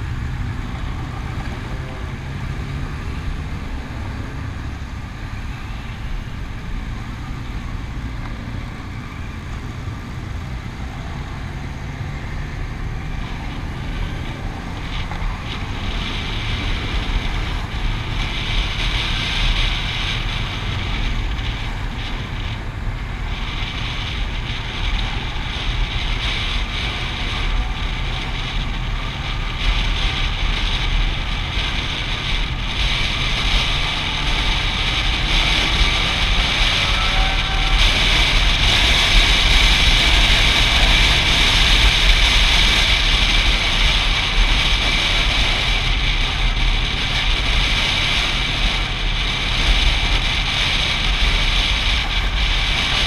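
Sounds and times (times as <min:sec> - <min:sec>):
vehicle engine and road rumble: 0:00.0 - 0:53.0
wind buffeting microphone: 0:00.0 - 0:53.0.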